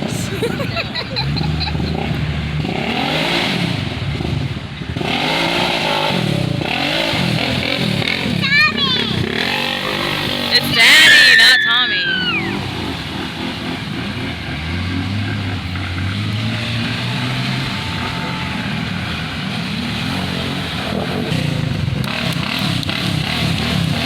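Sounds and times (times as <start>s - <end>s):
engine rumbling: 0.0s - 24.0s.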